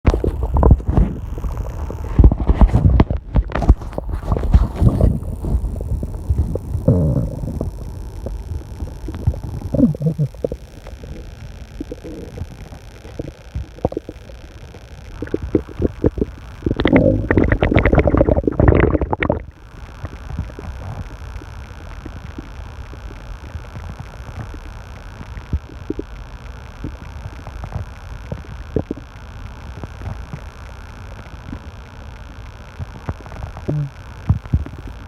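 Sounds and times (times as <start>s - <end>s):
stomach growling and gurgling: 0.0s - 35.0s.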